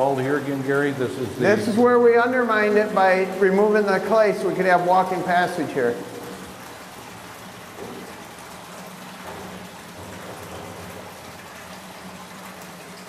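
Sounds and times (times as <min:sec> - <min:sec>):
water trickling and pattering: 0:00.0 - 0:13.0.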